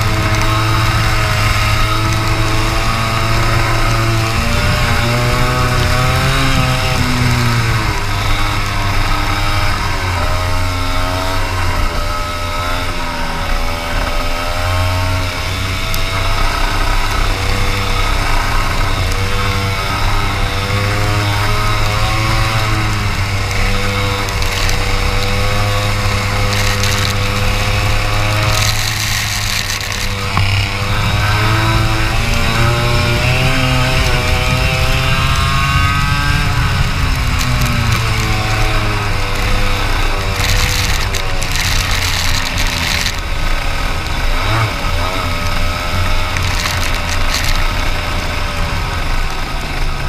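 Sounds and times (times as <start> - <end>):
racing kart engine revving: 0.0 - 50.0.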